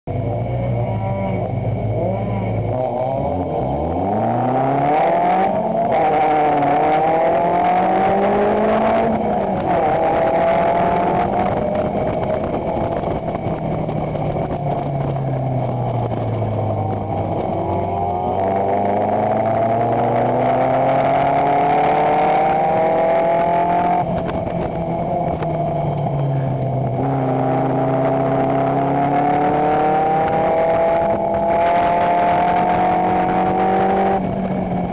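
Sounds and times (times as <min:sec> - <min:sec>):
race car engine revving: 0:00.2 - 0:34.9.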